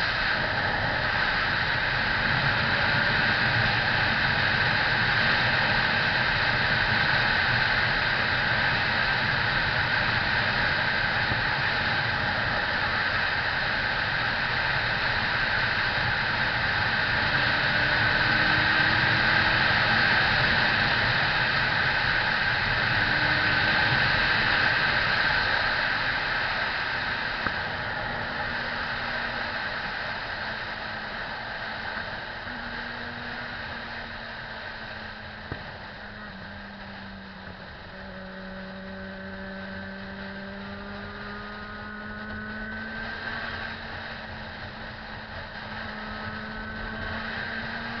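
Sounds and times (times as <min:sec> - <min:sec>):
faint motorcycle engine hum: 0:00.0 - 0:48.0
wind and road noise: 0:00.0 - 0:48.0.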